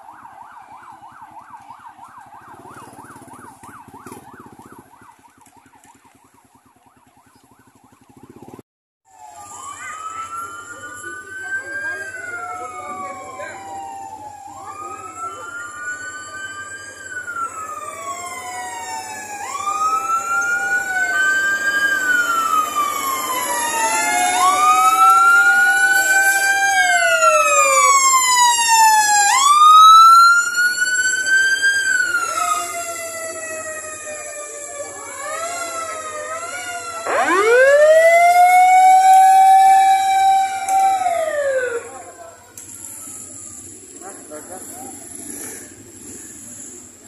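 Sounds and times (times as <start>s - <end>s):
fire truck sirens wailing: 0.0s - 44.6s.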